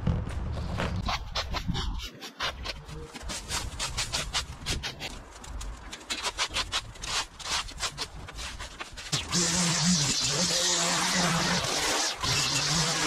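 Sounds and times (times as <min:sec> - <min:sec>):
rake scraping leaves on pavers: 0:01.1 - 0:13.0.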